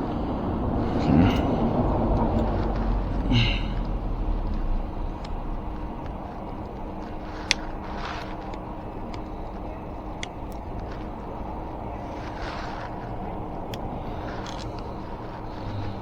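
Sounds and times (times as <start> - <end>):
low background rumble: 0.0 - 16.0
soft rustle: 0.0 - 16.0.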